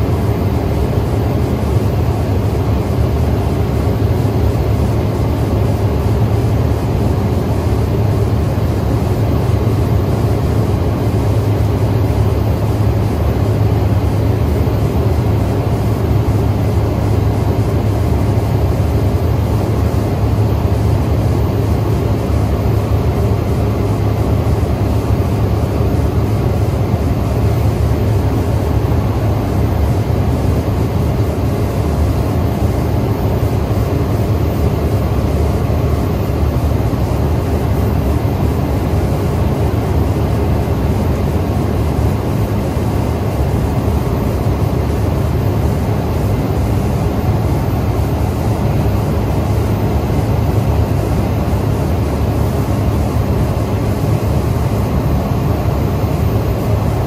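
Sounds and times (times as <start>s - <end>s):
propeller engine drone: 0.0s - 57.0s.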